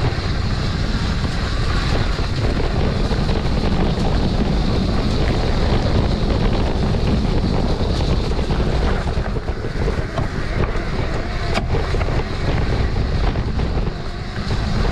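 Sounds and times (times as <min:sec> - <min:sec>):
loud rushing noise: 0:00.0 - 0:14.9
wind buffeting microphone: 0:00.0 - 0:14.9.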